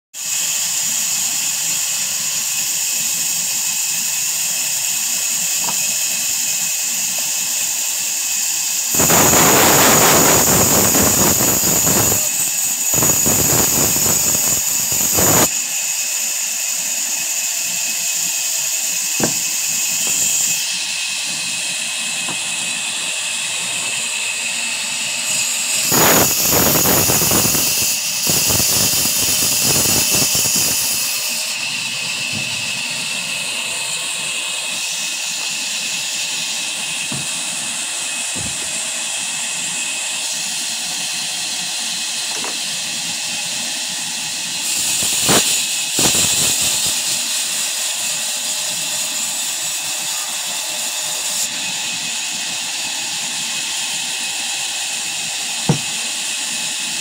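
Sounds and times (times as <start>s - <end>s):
band saw high whine: 0.2s - 57.0s
saw blade cutting into log: 0.2s - 57.0s.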